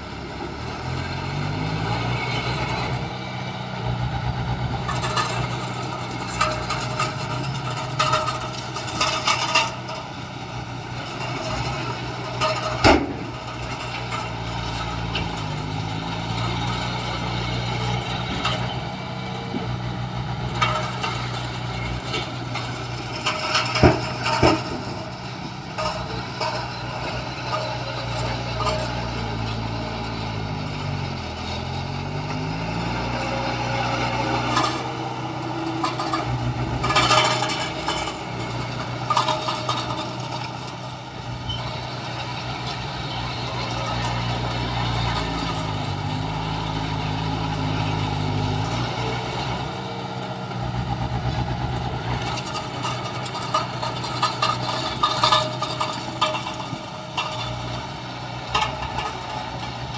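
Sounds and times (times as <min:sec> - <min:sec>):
diesel machinery engine running: 0:00.0 - 0:59.9
metallic clanks and knocks: 0:04.5 - 0:59.9.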